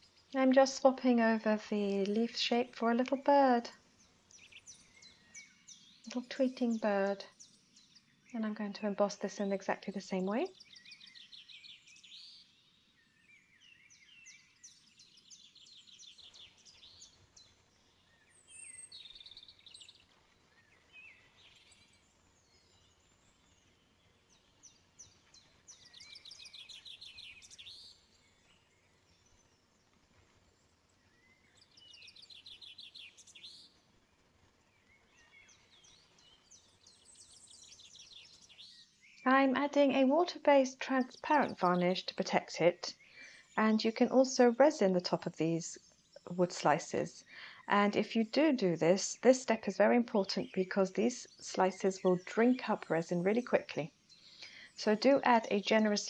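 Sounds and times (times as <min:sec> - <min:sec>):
faint songbirds trilling: 0:00.0 - 0:33.9, 0:34.6 - 0:56.0.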